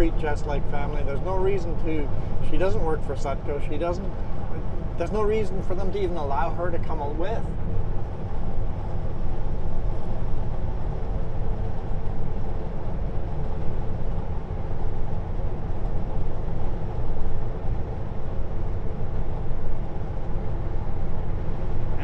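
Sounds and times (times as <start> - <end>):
road rumble: 0.0 - 22.0
truck engine drone: 0.0 - 22.0.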